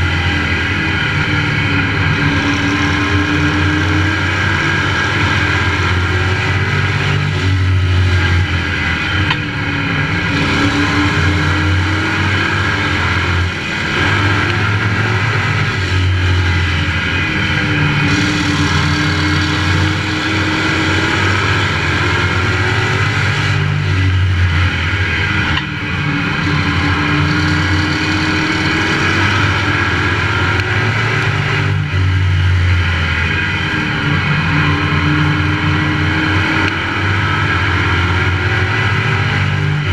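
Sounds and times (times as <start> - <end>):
race truck engine: 0.0 - 39.9.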